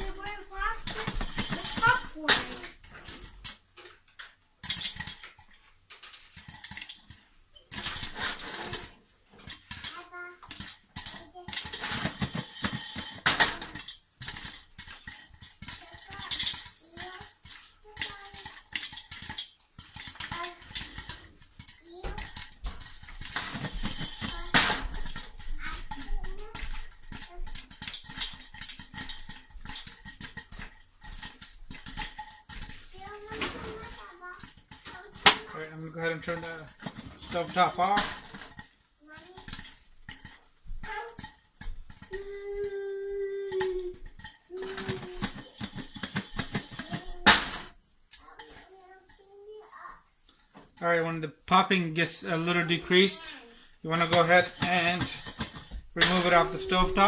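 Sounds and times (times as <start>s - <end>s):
popcorn kernels popping: 0.0s - 50.9s, 51.5s - 57.0s
pot rattling and scraping: 0.0s - 57.0s.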